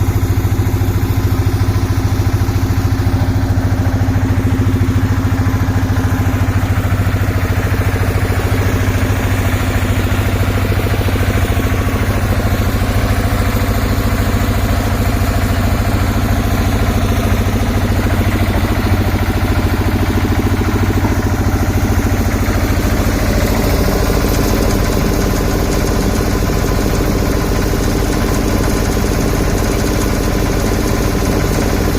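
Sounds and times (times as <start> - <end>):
concrete mixer engine running: 0.0 - 31.9.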